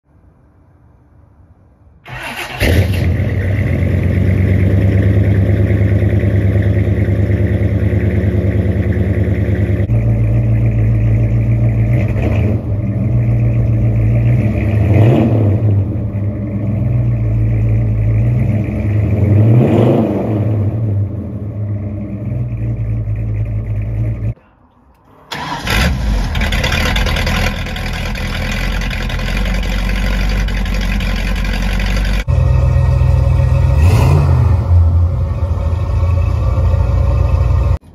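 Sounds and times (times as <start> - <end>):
car engine starting and revving: 2.0 - 24.4, 25.3 - 37.9
second car engine running: 2.1 - 24.4, 25.3 - 37.9.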